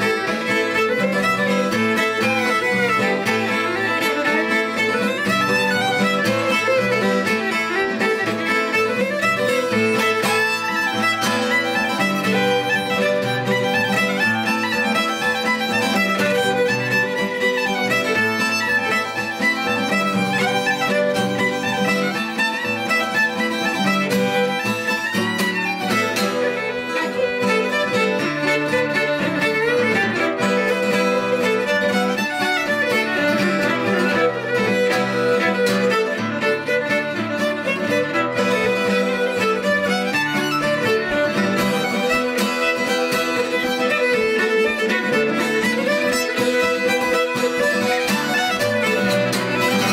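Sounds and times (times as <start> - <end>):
fiddle melody: 0.0 - 49.9
strummed acoustic guitar: 0.0 - 49.9.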